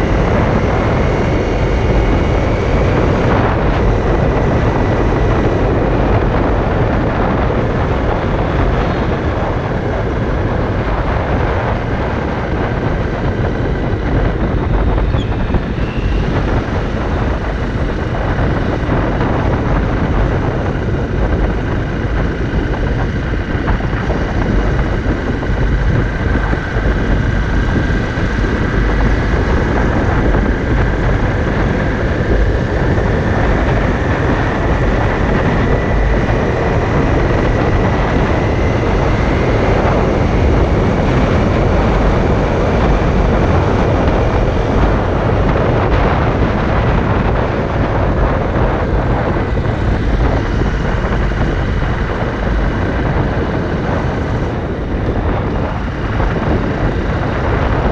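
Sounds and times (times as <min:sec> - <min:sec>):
dirt bike engine running: 0:00.0 - 0:57.9
wind rush on microphone: 0:00.0 - 0:57.9.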